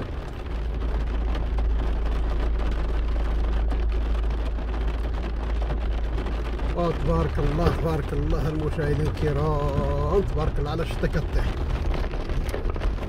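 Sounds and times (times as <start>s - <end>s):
low rumble: 0.0s - 13.0s
rain pattering on car roof: 0.0s - 13.0s.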